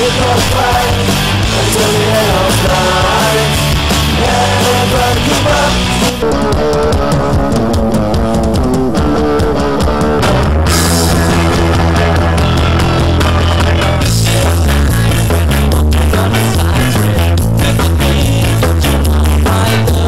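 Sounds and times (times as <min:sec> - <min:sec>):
heavy bass: 0:00.0 - 0:20.0
rock music with guitar and drums: 0:00.0 - 0:20.0.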